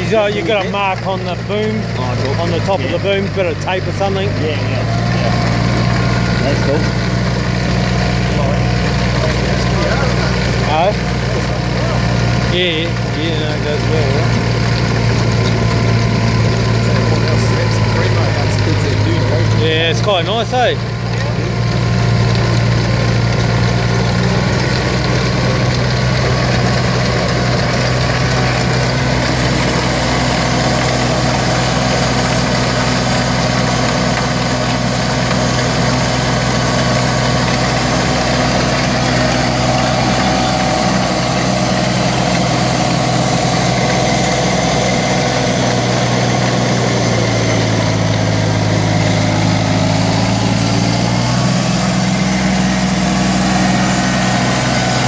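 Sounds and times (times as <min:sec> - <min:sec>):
chain trencher cutting soil: 0:00.0 - 0:55.0
tractor diesel engine running: 0:00.0 - 0:55.0.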